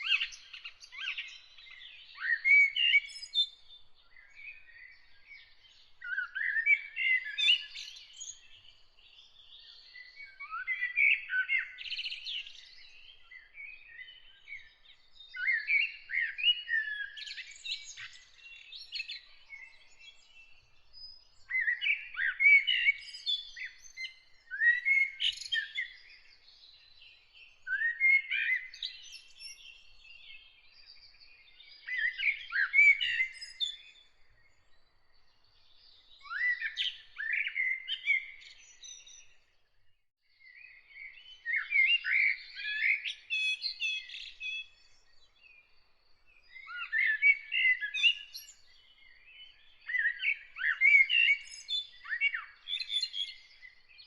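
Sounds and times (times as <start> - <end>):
songbird chirps and trills: 0.0 - 54.0.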